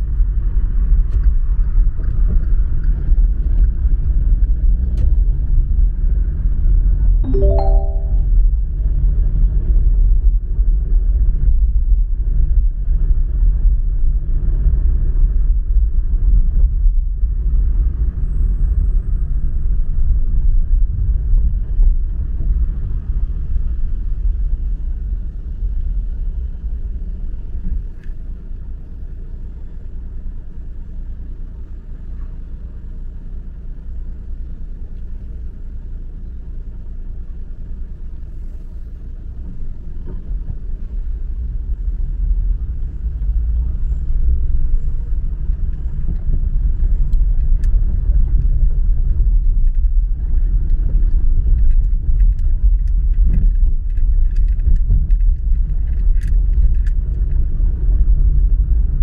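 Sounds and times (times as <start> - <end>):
car engine and road noise: 0.0 - 7.2, 9.6 - 59.0.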